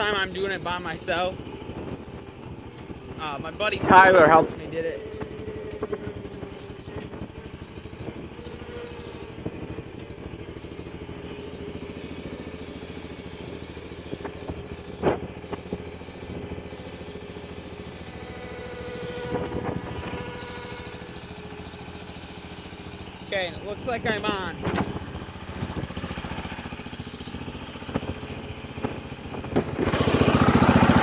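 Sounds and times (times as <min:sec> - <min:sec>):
garden tractor engine running: 0:00.0 - 0:31.0.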